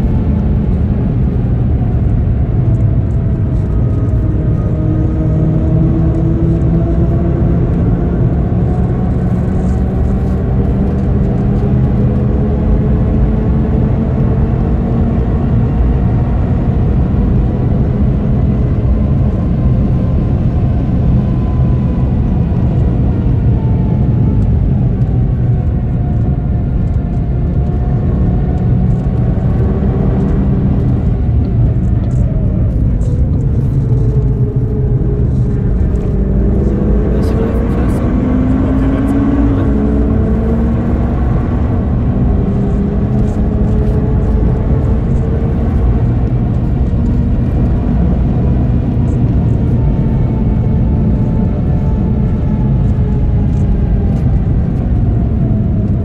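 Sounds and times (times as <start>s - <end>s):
car engine at full throttle: 0.0s - 56.0s
wind and road rumble: 0.0s - 56.0s.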